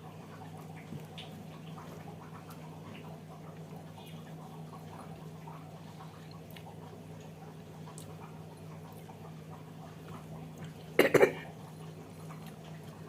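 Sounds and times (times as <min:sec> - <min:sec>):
steady low hum: 0:00.0 - 0:13.0
quiet eating sounds: 0:00.4 - 0:13.0.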